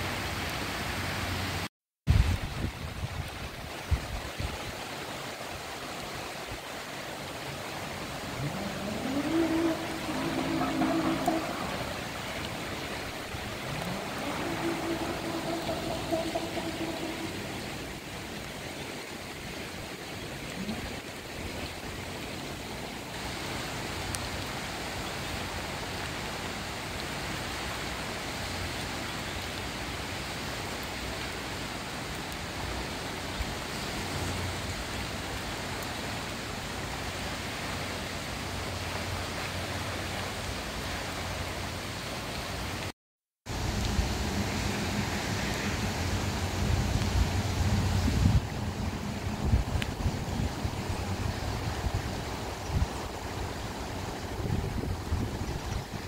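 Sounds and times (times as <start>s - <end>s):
river floodwater rushing: 0.0s - 42.9s, 43.5s - 56.0s.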